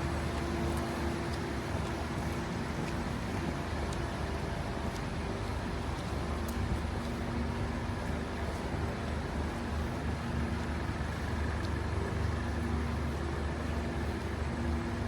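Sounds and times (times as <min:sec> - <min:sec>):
rain hissing on wet streets: 0:00.0 - 0:15.0
traffic engine rumble: 0:00.0 - 0:15.0.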